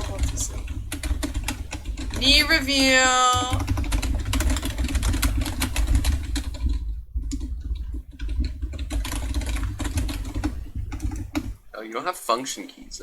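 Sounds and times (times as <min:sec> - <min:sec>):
computer keyboard typing: 0:00.0 - 0:12.1.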